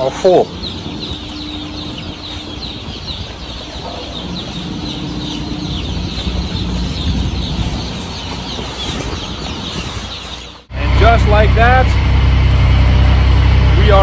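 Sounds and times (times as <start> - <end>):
baby chicks peeping: 0.0 - 12.0, 12.6 - 14.0
low rumble: 0.5 - 14.0.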